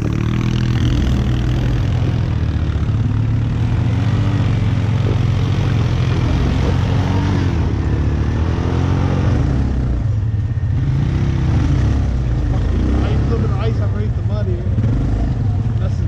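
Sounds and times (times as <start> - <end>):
atv engines revving: 0.0 - 16.0.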